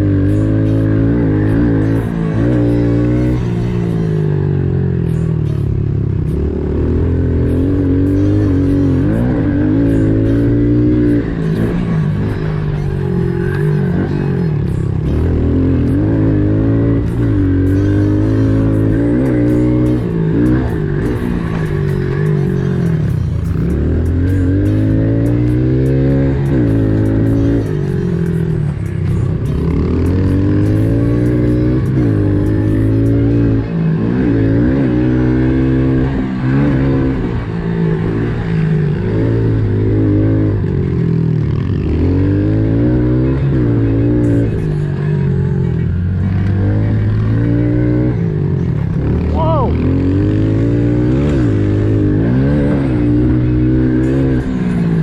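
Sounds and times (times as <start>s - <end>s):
background music: 0.0s - 55.0s
pit bike engines revving: 0.0s - 55.0s.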